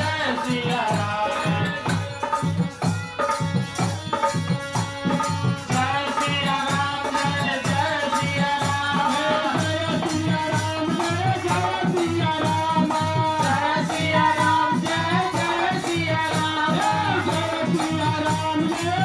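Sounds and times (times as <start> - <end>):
man singing: 0.0 - 2.6, 4.9 - 19.0
drum beating steady rhythm: 0.0 - 19.0
harmonium: 0.0 - 19.0.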